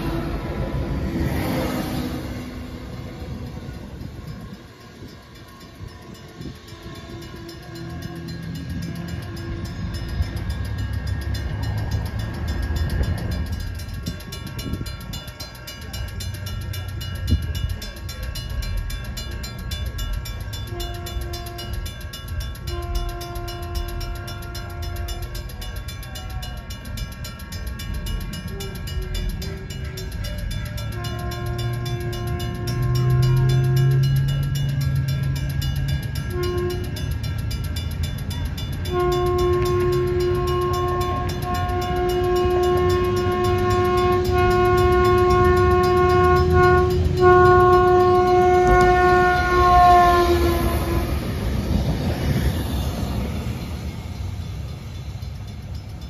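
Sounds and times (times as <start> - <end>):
train horn blasts: 0.0 - 16.3, 20.3 - 27.0, 28.2 - 52.4
train engine rumbling: 0.0 - 56.0.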